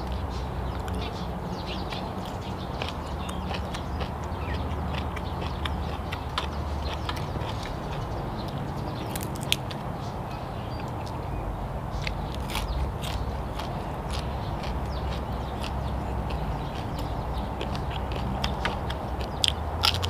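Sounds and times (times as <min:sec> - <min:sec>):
person chewing raw vegetables: 0:00.0 - 0:09.9, 0:12.0 - 0:20.0.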